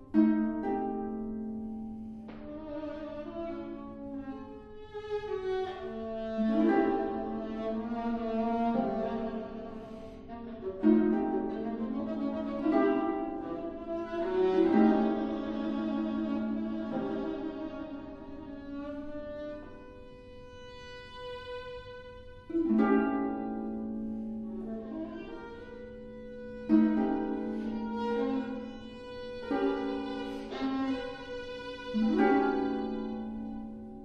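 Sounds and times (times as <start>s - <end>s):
chamber music trio: 0.0s - 34.0s.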